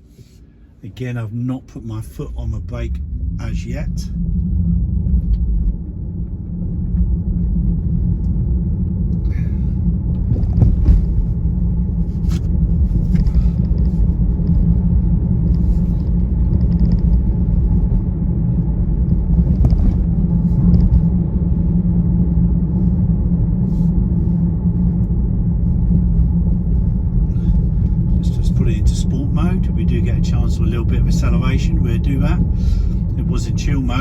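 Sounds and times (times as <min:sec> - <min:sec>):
road and tyre rumble in car cabin: 0:00.0 - 0:34.0.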